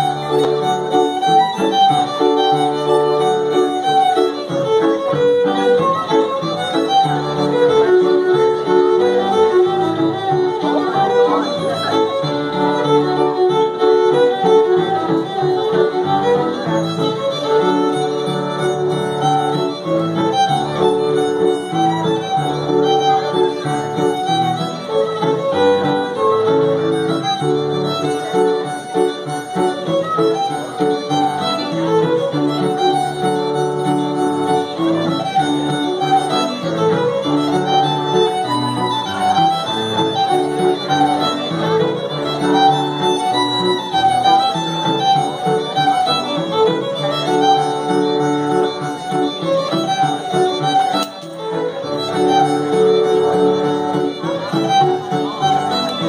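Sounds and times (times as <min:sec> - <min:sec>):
fiddle playing quick notes: 0:00.0 - 0:56.0
keyboard accompaniment: 0:00.0 - 0:56.0.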